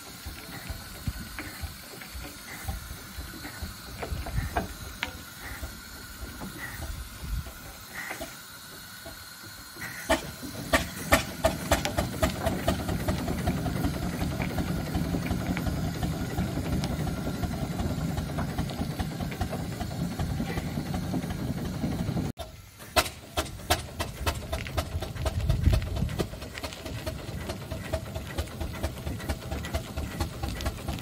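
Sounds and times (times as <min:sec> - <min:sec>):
steam roller engine chuffing: 0:00.0 - 0:31.0.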